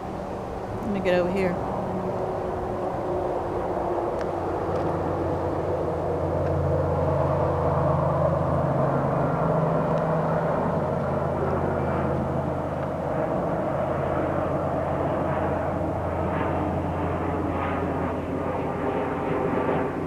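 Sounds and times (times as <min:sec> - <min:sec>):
engine drone with low hum: 0:00.0 - 0:20.0.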